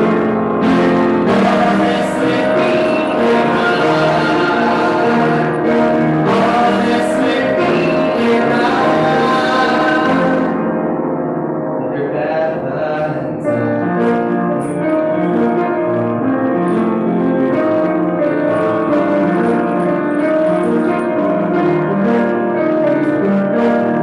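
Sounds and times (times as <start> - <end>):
solo piano music: 0.0 - 24.0.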